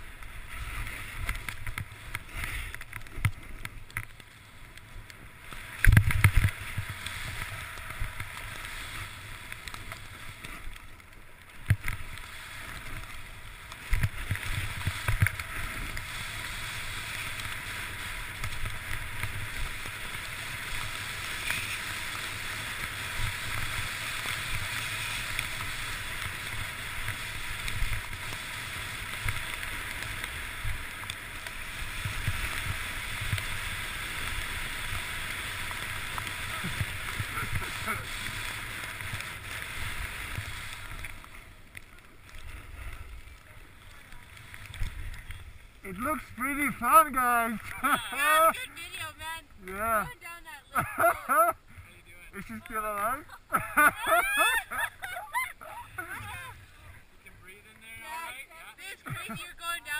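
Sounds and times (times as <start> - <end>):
skis sliding through powder snow: 0.0 - 59.9.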